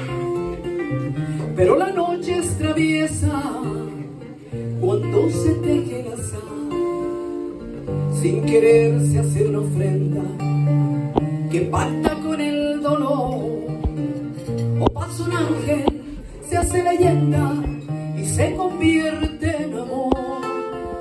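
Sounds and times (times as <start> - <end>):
classical acoustic guitar: 0.0 - 21.0
woman singing into microphone: 1.4 - 21.0.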